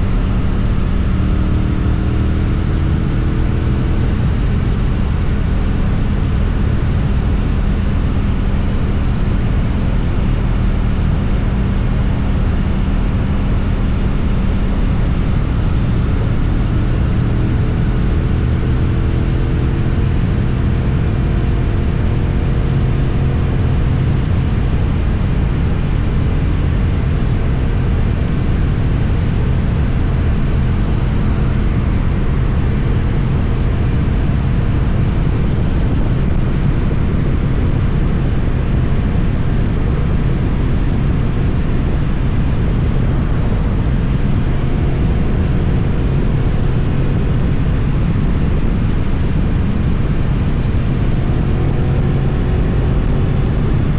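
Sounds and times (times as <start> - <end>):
motorcycle engine riding: 0.0 - 53.9
wind rushing on microphone: 0.0 - 53.9.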